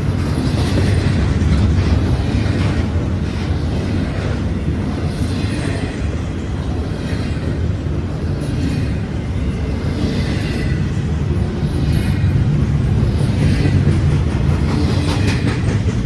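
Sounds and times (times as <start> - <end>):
freight train rumbling on rails: 0.0 - 16.0.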